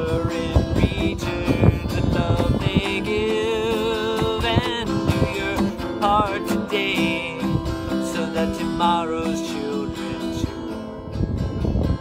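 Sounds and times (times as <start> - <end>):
man singing: 0.0 - 11.1
acoustic guitar strumming: 0.0 - 12.0.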